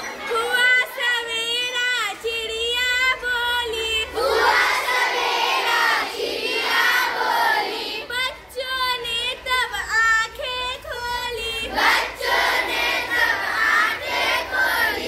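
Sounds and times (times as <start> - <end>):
group of girls singing: 0.0 - 15.0.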